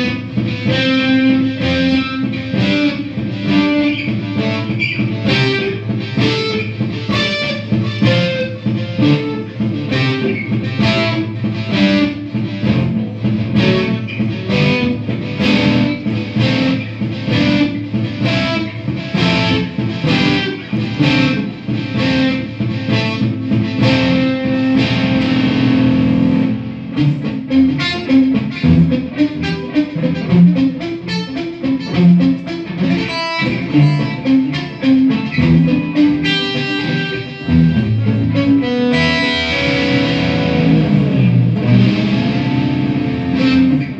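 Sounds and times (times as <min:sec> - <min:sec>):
overdriven electric guitar: 0:00.0 - 0:43.9.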